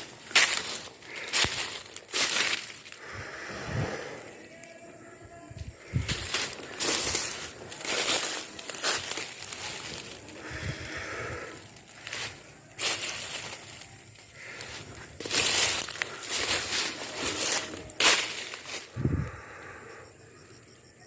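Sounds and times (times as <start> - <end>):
crunching and rustling in dry brush: 0.0 - 3.2, 5.6 - 19.5.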